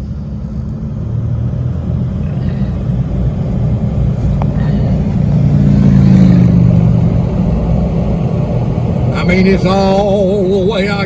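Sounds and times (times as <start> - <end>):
road noise inside vehicle: 0.0 - 11.0
vehicle engine drone: 0.0 - 11.0.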